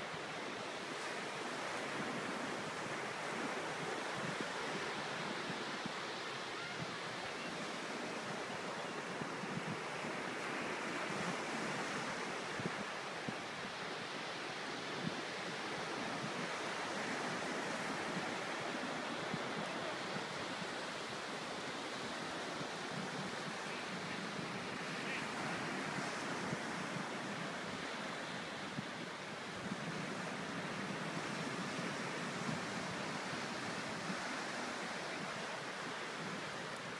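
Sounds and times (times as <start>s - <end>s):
ocean surf breaking: 0.8s - 36.9s.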